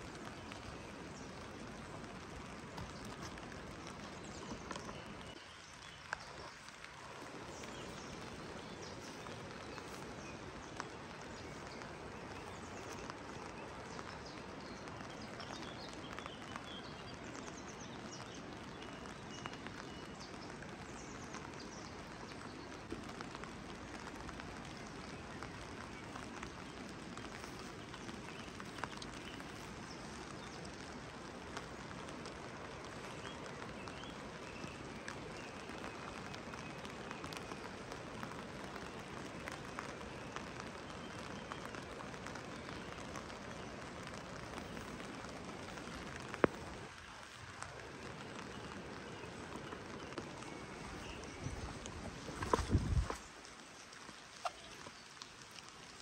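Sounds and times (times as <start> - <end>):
raindrops tapping nearby: 0.0 - 56.0
steady rain hiss: 0.0 - 56.0.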